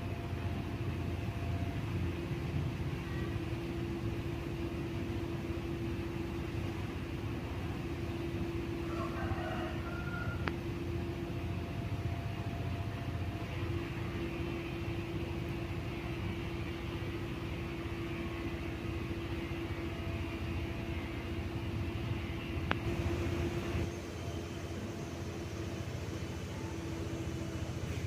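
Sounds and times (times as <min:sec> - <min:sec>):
ceiling fan hum and air rush: 0:00.0 - 0:28.0.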